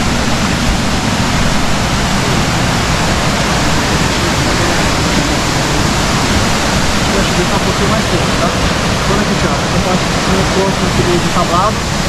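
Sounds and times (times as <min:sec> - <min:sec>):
small waterfall rushing over rocks: 0:00.0 - 0:12.0.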